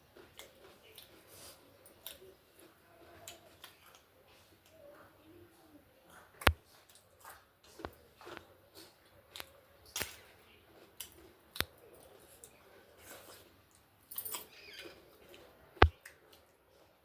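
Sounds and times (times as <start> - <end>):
crunchy scratchy chewing: 0.0 - 17.0
food being chewed: 0.0 - 17.0.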